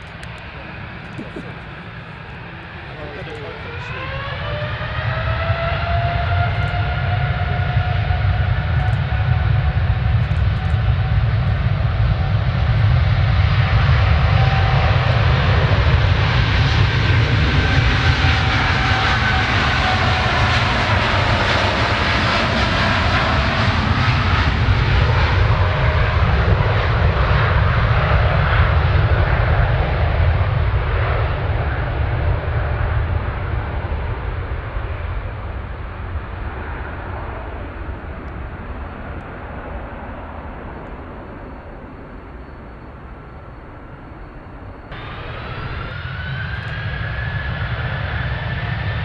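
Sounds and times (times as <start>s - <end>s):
airliner engines passing: 0.0s - 49.0s.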